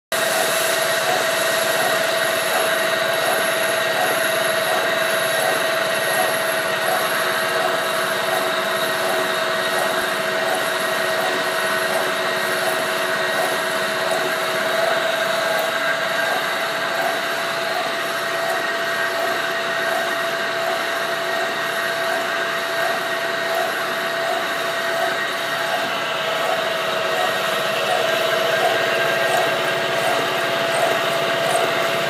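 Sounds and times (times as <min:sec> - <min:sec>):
held pulsing tone: 0:00.2 - 0:32.0
milling machine cutting steel: 0:00.2 - 0:32.0.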